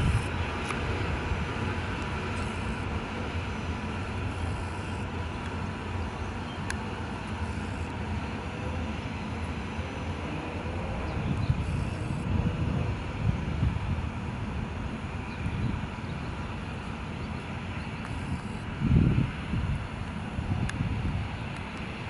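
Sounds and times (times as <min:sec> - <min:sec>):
faint rising whine: 0:00.0 - 0:22.0
train rumbling slowly: 0:00.0 - 0:22.0.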